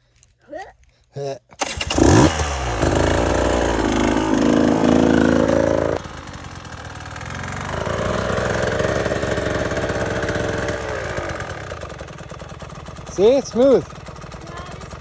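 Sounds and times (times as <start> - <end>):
dirt bike engine running: 1.6 - 15.0.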